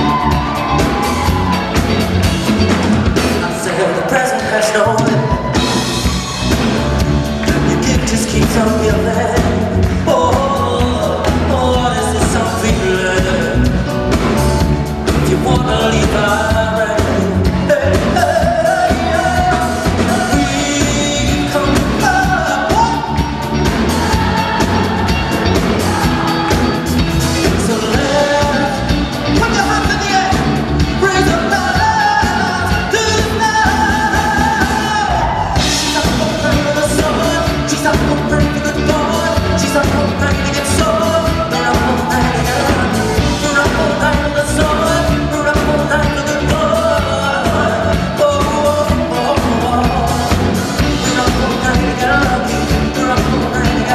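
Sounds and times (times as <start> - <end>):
live pop band: 0.0 - 53.9
man singing: 3.1 - 6.3, 7.2 - 53.9.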